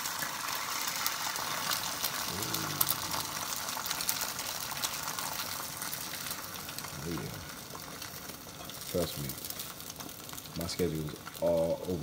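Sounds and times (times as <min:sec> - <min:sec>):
egg whites sizzling in frying pan: 0:00.0 - 0:12.0.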